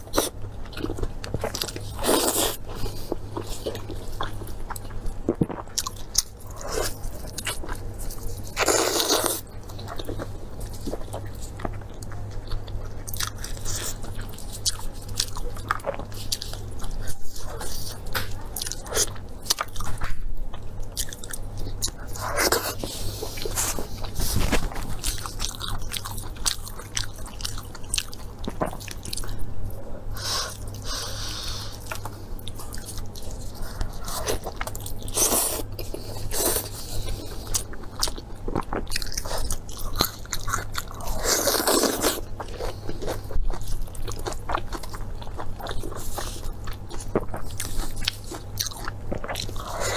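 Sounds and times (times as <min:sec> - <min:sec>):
person chewing crisply: 0:00.0 - 0:49.9
steady low hum: 0:00.0 - 0:49.9.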